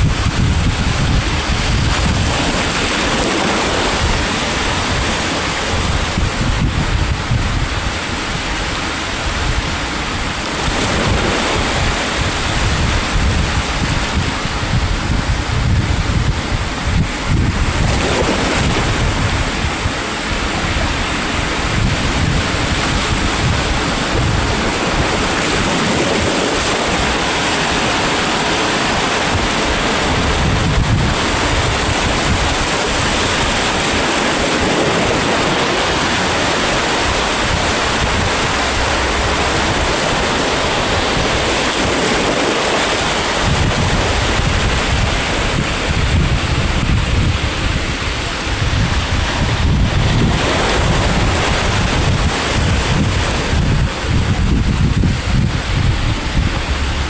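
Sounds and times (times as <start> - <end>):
sea waves breaking on shore: 0.0 - 57.0
wind buffeting microphone: 0.0 - 57.0.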